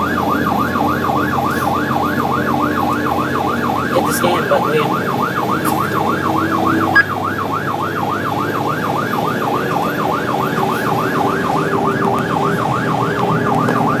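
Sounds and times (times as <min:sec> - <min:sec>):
fire truck siren yelping: 0:00.0 - 0:14.0
truck engine and road noise: 0:00.0 - 0:14.0.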